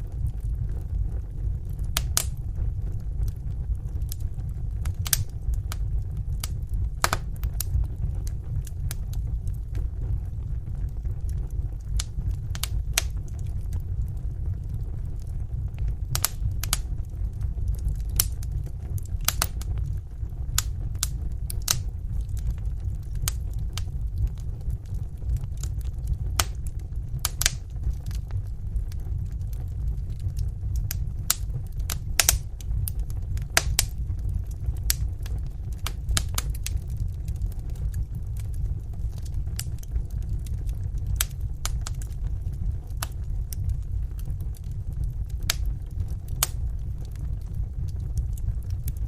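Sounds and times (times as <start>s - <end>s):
fire flames rumbling: 0.0s - 49.0s
wood crackling and popping: 0.0s - 49.0s.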